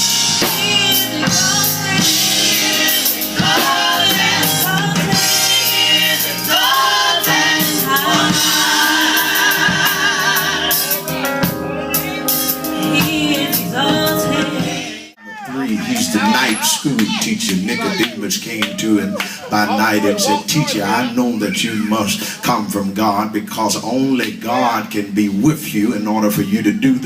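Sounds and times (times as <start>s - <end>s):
drum kit and band: 0.0s - 23.0s
voices singing gospel: 0.0s - 25.0s.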